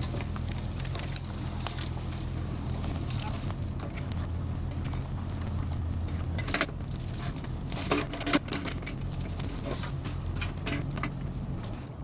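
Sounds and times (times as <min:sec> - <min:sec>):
mini excavator diesel engine running: 0:00.0 - 0:12.0.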